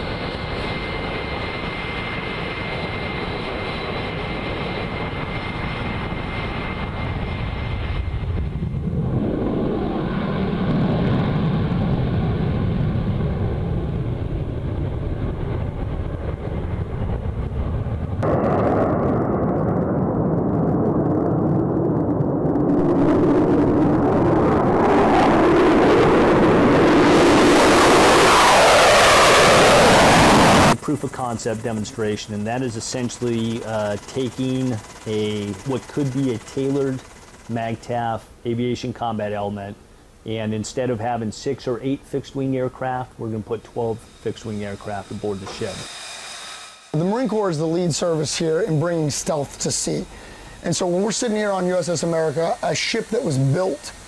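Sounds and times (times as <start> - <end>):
jet roar flying by: 0.0 - 36.8, 40.9 - 54.0
jet engine whine: 0.0 - 54.0.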